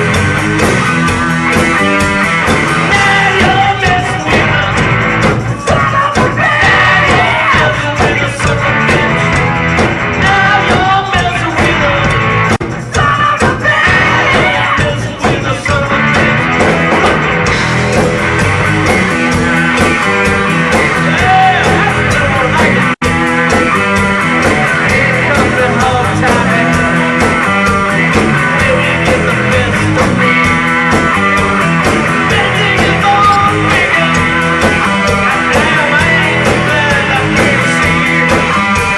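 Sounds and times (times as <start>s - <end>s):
rock band with electric guitar: 0.0s - 38.9s.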